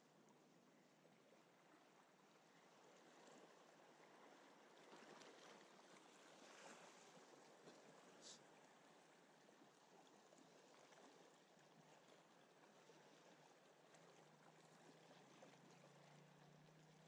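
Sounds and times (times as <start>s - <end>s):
sea water lapping against rocks: 1.3s - 17.0s.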